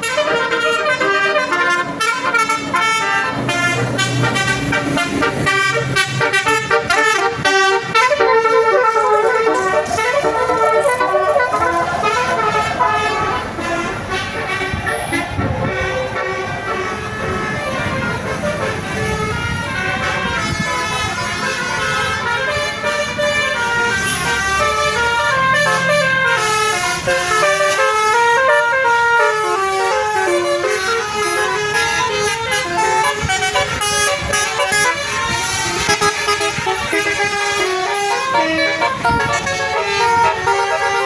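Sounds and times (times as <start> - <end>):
musical air horn playing a tune: 0.0 - 41.0.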